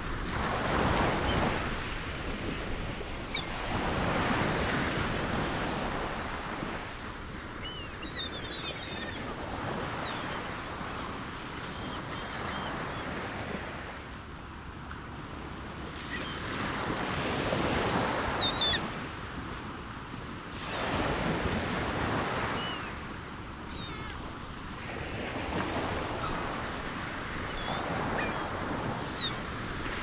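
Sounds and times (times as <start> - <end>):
sea waves washing in: 0.0 - 11.6, 16.8 - 30.0.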